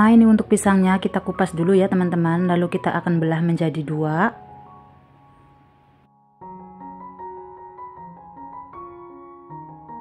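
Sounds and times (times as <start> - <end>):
keyboard melody: 0.0 - 10.0.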